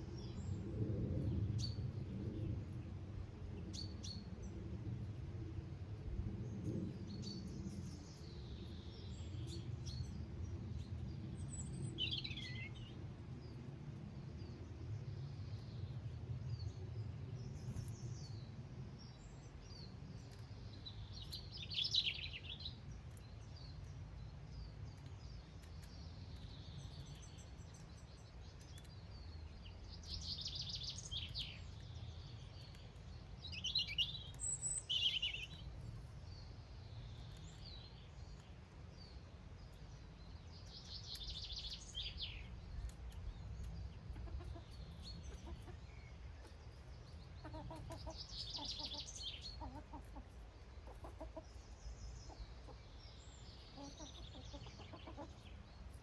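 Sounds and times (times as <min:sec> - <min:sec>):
songbirds chirping: 0:06.0 - 0:56.0.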